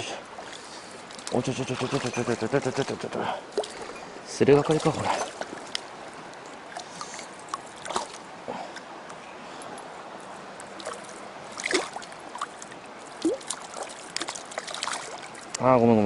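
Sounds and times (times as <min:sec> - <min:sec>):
mountain stream running: 0:00.0 - 0:16.0
short splashes and clicks: 0:00.4 - 0:04.0, 0:04.6 - 0:09.8, 0:10.6 - 0:15.6.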